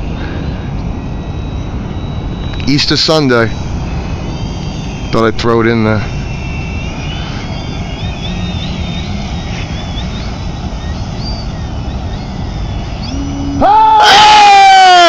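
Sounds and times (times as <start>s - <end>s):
low rumble: 0.0s - 14.0s
model plane motor whining: 0.0s - 15.0s.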